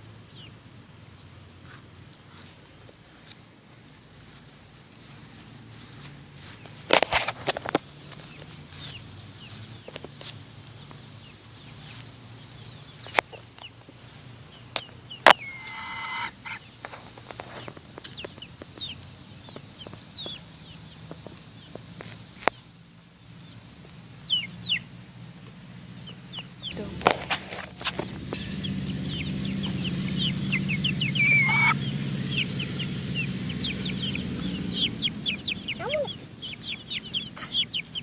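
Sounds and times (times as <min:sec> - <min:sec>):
chickens clucking: 0:04.4 - 0:22.6, 0:24.2 - 0:38.0.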